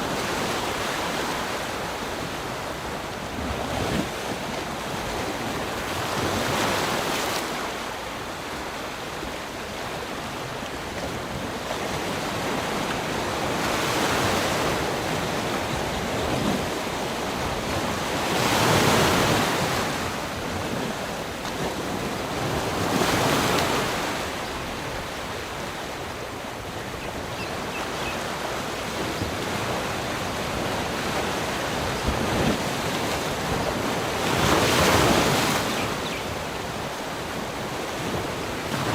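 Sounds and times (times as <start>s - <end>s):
rushing water roar: 0.0s - 38.9s.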